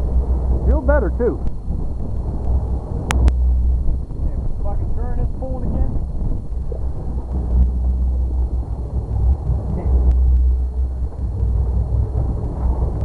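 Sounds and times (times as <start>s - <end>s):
boat motor rumbling: 0.0s - 13.0s
wind buffeting microphone: 0.0s - 13.0s.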